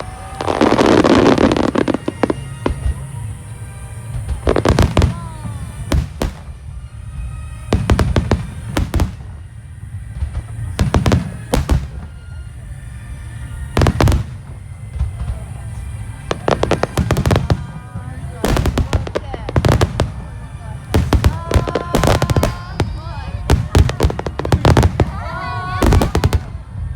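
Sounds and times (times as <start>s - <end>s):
fireworks booming: 0.0s - 26.9s
fireworks crackling: 0.0s - 26.9s.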